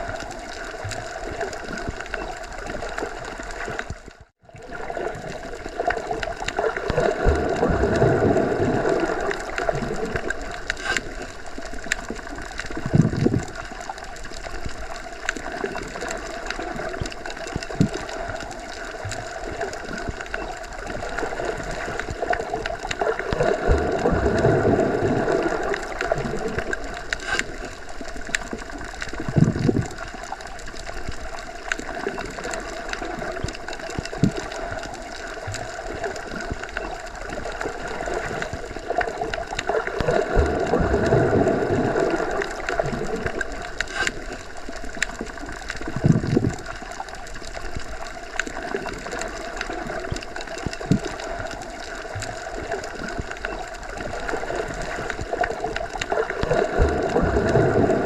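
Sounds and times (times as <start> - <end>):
muffled underwater rush: 0.0 - 58.0.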